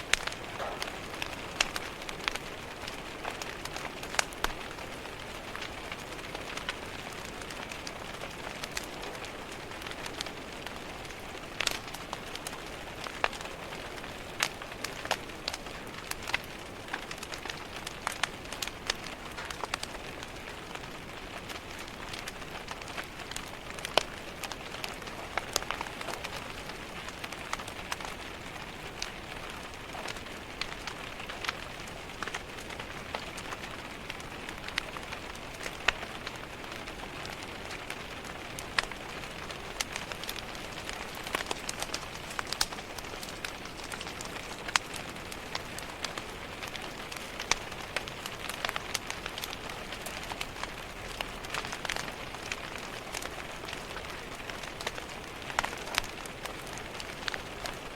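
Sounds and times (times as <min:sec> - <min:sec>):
rain tapping on a window: 0:00.0 - 0:57.9
wood fire crackling: 0:00.0 - 0:57.9.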